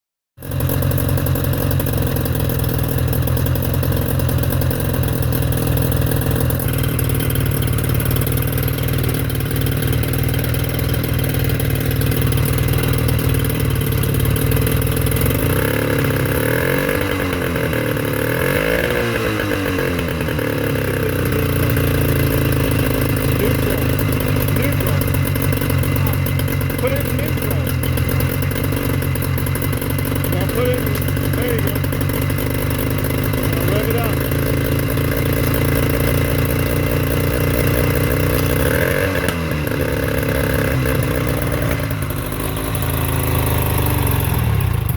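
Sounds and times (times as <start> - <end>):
outboard motor running: 0.4 - 44.9.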